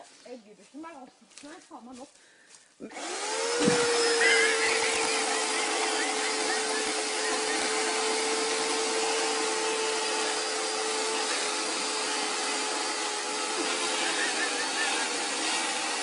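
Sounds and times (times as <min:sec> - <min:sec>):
small engine whining at high speed: 0:02.9 - 0:16.0.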